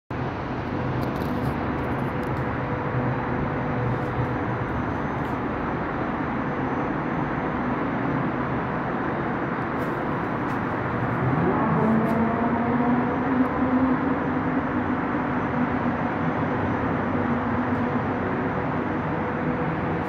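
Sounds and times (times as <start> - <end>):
distant city traffic hum: 0.1 - 20.0
wind: 0.1 - 20.0.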